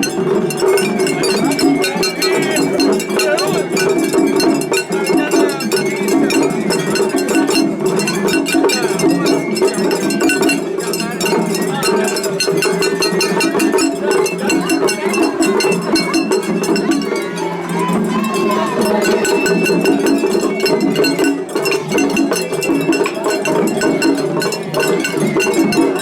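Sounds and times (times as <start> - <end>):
crowd voices: 0.0 - 26.0
taiko drums: 0.0 - 26.0
bamboo flute: 0.7 - 11.3, 12.2 - 26.0.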